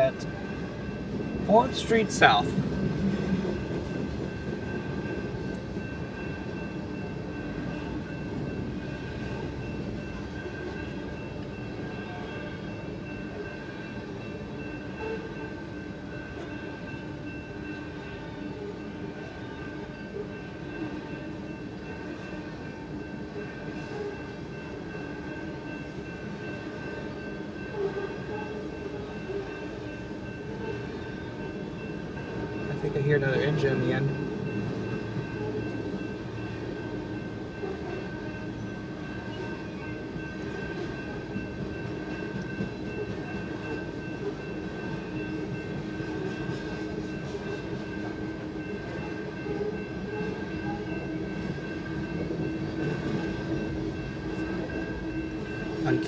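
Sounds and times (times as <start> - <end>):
train cars rolling past: 0.1 - 56.0.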